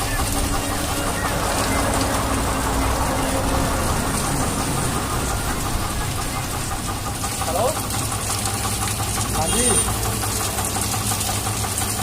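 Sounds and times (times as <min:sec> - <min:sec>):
engine rumble: 0:00.0 - 0:12.0.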